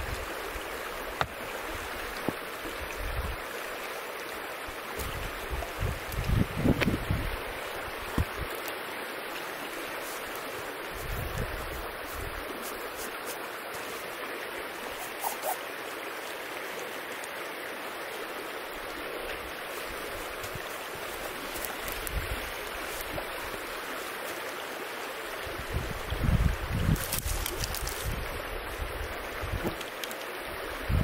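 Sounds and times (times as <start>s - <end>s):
river flowing: 0.0s - 31.0s.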